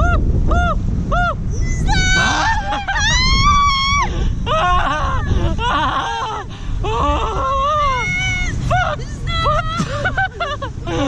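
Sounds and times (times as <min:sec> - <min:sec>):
steady low rumble: 0:00.0 - 0:11.0
people screaming: 0:00.6 - 0:09.7.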